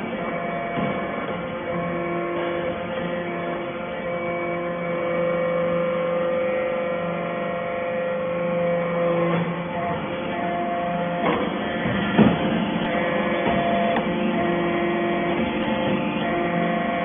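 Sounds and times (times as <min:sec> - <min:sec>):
hydraulic pump motor humming: 0:00.0 - 0:17.0.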